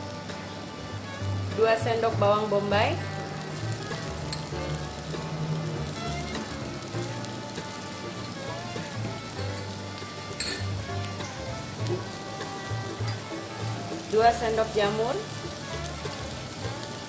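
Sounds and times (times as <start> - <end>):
background music with bass: 0.0 - 17.0
onion sizzling on griddle: 0.0 - 17.0.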